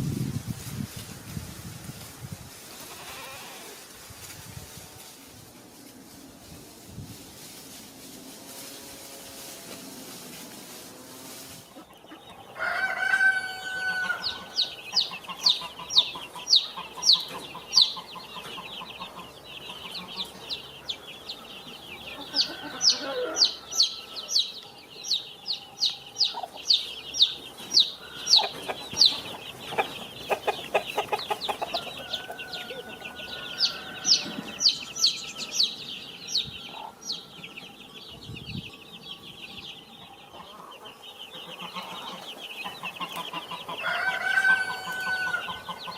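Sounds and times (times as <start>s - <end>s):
chicks peeping: 0.1s - 45.9s.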